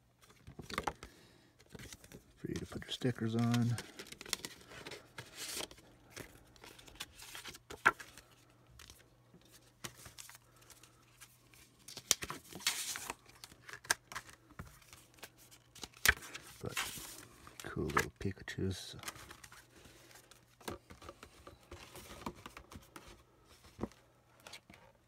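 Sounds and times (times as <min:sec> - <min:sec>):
cardboard and paper rustling: 0:00.1 - 0:18.2, 0:18.9 - 0:25.0.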